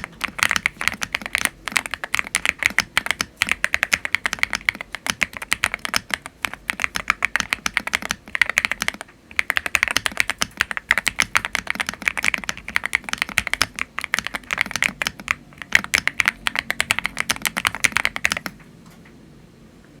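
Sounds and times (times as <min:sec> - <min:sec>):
mechanical keyboard typing: 0:00.0 - 0:18.6.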